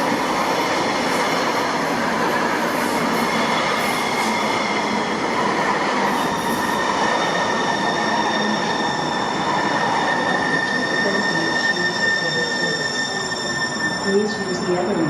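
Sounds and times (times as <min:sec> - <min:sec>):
light rail train rumbling: 0:00.0 - 0:15.0
train wheel squeal: 0:00.0 - 0:15.0.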